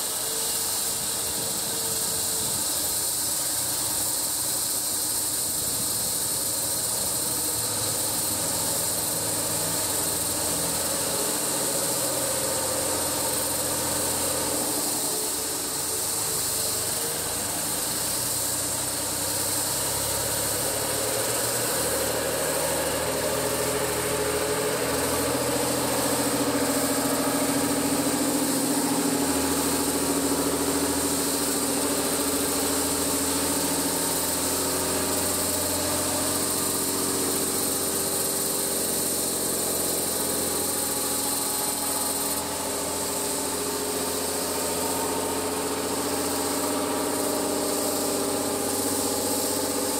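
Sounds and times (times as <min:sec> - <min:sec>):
engine running: 0:00.0 - 0:49.9
high hiss: 0:00.0 - 0:49.9.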